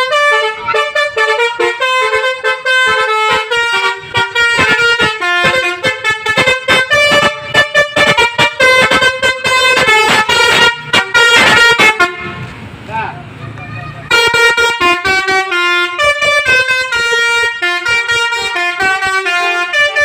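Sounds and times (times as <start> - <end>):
bus horn playing fast melody: 0.0 - 12.5, 14.1 - 20.0.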